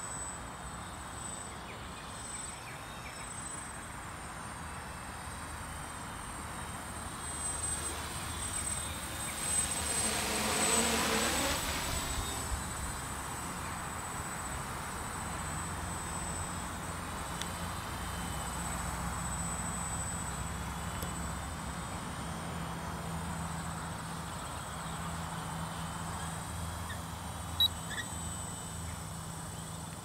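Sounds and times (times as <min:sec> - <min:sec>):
quadcopter propellers buzzing: 0:00.0 - 0:30.0.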